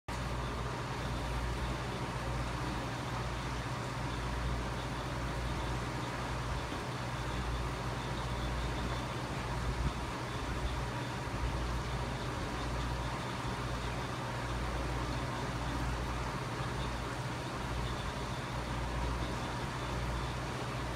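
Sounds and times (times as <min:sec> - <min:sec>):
aquarium filter pump humming: 0:00.1 - 0:20.9.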